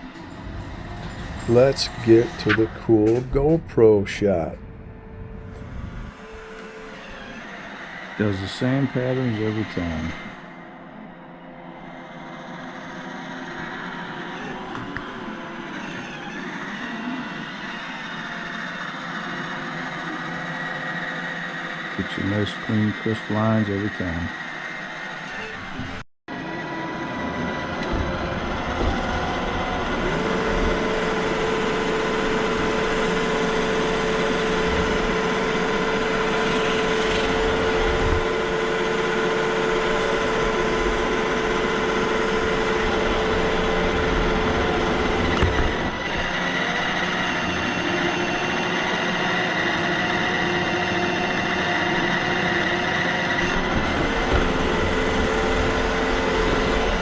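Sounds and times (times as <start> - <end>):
robot vacuum whirring with whine: 0.0 - 57.0.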